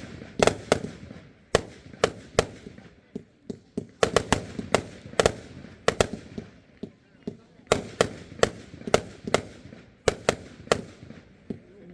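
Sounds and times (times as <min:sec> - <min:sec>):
fireworks bangs with echo: 0:00.0 - 0:11.8.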